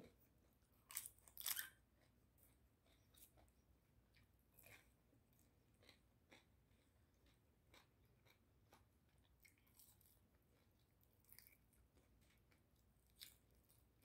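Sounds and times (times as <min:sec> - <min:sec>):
chewing and mouth clicks: 0:00.8 - 0:14.0.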